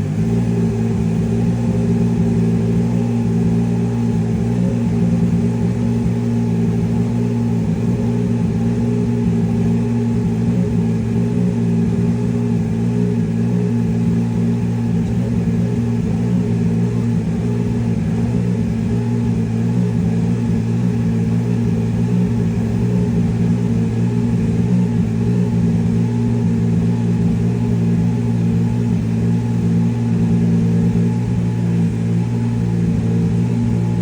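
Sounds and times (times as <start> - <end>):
race car engine idling: 0.0 - 34.0.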